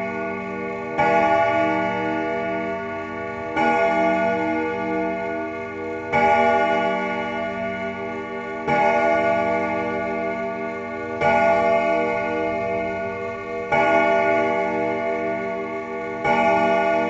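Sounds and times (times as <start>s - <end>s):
deep bell tolling: 0.0s - 17.0s.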